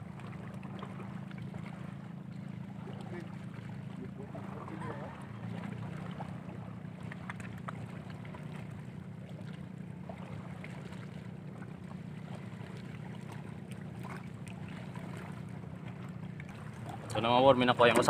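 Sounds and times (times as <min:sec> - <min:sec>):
sea waves: 0:00.0 - 0:18.0
wind: 0:00.0 - 0:18.0.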